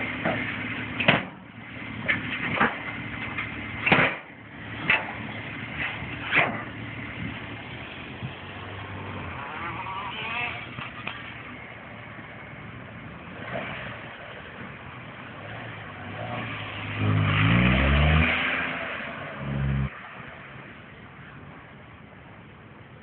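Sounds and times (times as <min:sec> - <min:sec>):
car engine running and revving: 0:00.0 - 0:20.3.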